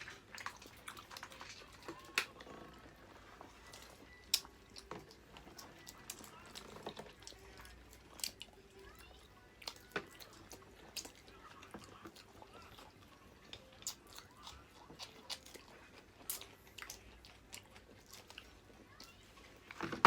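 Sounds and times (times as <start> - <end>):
chewing and eating: 0.0 - 20.0.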